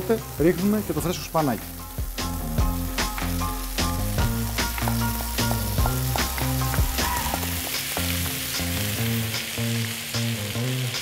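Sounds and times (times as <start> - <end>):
spinach sizzling in a frying pan: 0.0 - 11.0.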